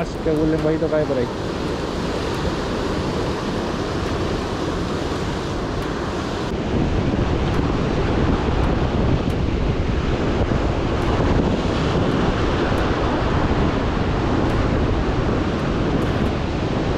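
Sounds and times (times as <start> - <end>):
ocean surf on rocks: 0.0 - 16.9
wind buffeting microphone: 0.0 - 16.9.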